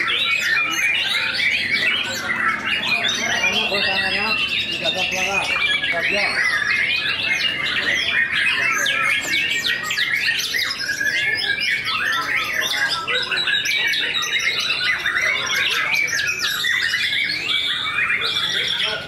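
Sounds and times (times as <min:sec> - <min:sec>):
birds singing: 0:00.0 - 0:19.0.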